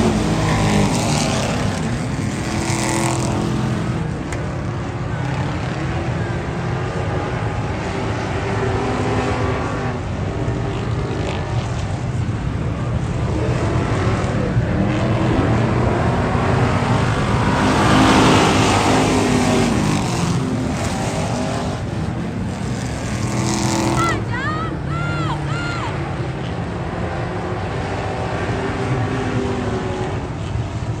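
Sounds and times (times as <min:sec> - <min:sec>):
race car engines: 0:00.0 - 0:31.0
race car passing by: 0:00.0 - 0:31.0.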